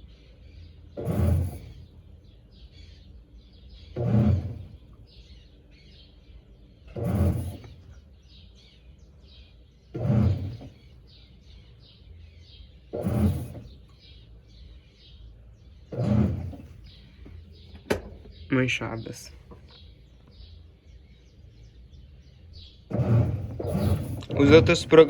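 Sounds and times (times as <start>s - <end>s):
washing machine churning water: 0.0s - 14.9s, 15.7s - 20.3s, 21.9s - 25.0s
birds chirping faintly: 0.0s - 25.0s.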